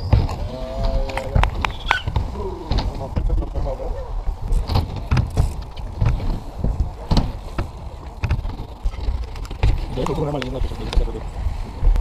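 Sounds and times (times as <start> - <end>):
bike tyres rumbling on ramp: 0.0 - 12.0
wheels knocking and landings: 0.0 - 12.0.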